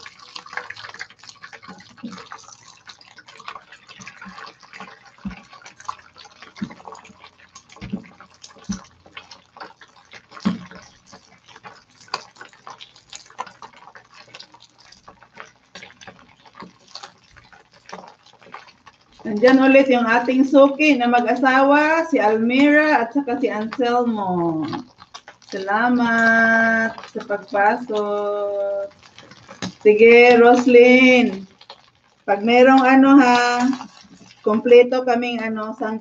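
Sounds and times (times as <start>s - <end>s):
egg sizzling in hot oil: 0.0s - 36.0s.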